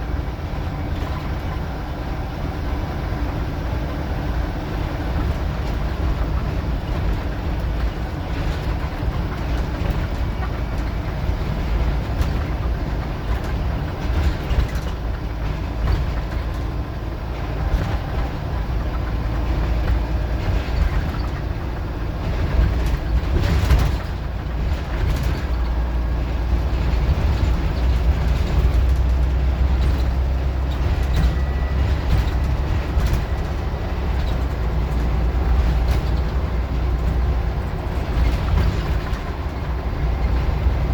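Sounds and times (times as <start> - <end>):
bus engine rumble: 0.0 - 40.9.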